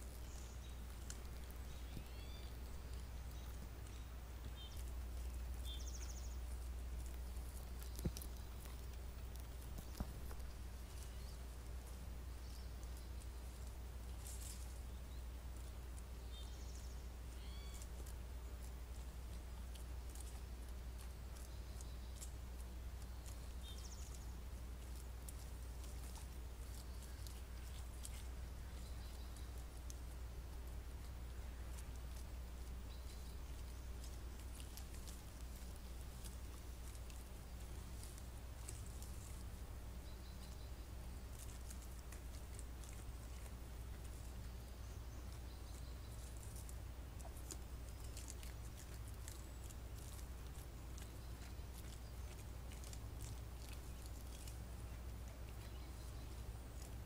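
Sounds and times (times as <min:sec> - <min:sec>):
footsteps crackling in dry leaves: 0:00.0 - 0:57.0
steady low hum: 0:00.0 - 0:57.0.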